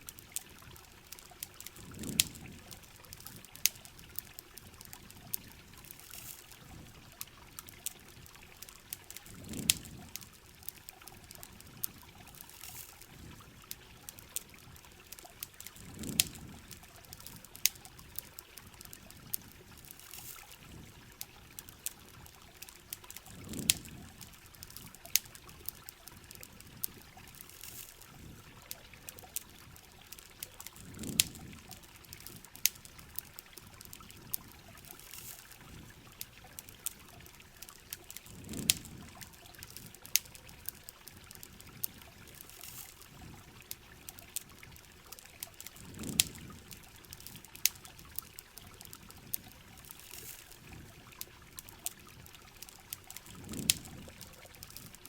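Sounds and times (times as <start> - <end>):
campfire crackling and popping: 0.0 - 55.0
steady rain: 0.0 - 55.0.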